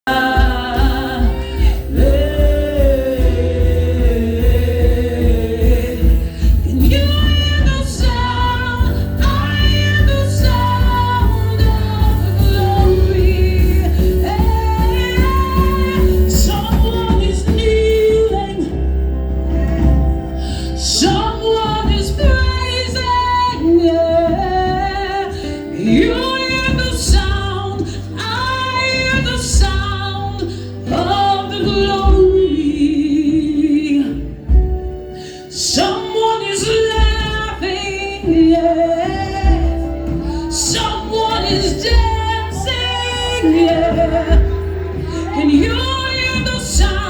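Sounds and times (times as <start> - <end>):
singers singing: 0.0 - 34.9, 35.6 - 47.0
band playing gospel music: 0.0 - 47.0.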